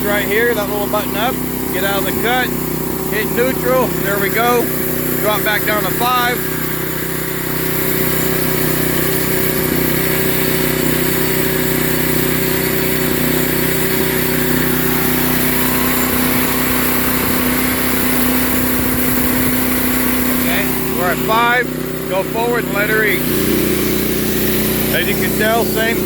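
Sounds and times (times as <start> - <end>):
band sawmill engine and blade hum: 0.0 - 26.0.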